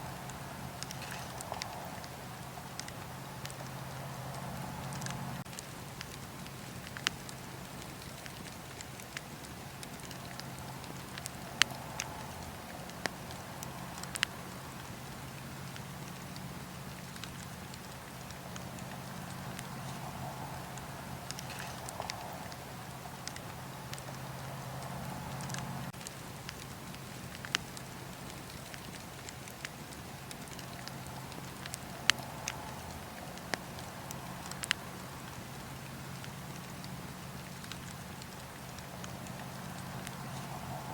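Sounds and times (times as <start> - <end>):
fire crackling and popping: 0.0 - 40.9
wood fire rumbling and hissing: 0.0 - 40.9.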